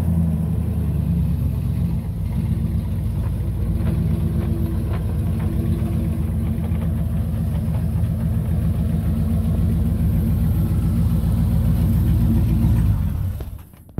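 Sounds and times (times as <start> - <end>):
pickup truck engine running: 0.0 - 13.9.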